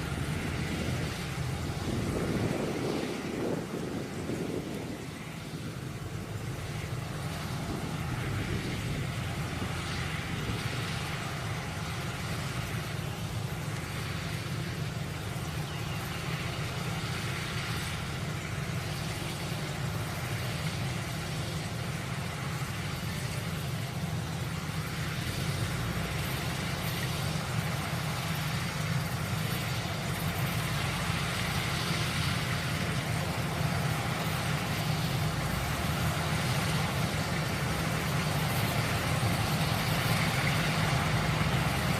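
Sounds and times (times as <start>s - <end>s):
diesel engine drone: 0.0s - 41.9s
machinery hiss: 0.0s - 41.9s.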